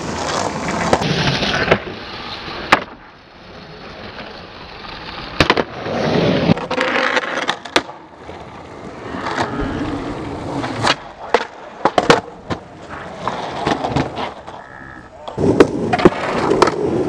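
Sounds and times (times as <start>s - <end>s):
skateboard clacking on concrete: 0.0s - 2.0s, 4.2s - 17.0s
skateboard wheels rolling on concrete: 0.0s - 17.0s.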